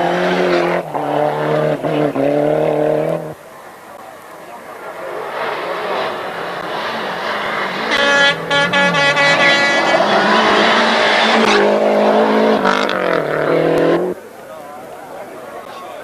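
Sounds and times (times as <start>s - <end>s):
rally car engine at full throttle: 0.0s - 15.8s.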